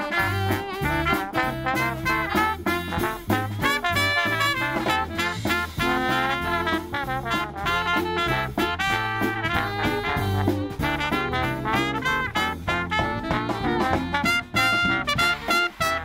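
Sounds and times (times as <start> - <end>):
big band playing swing: 0.0 - 16.0.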